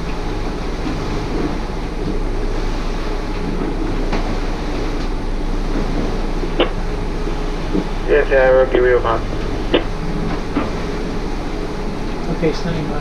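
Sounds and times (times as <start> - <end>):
boat diesel engine droning: 0.0 - 13.0.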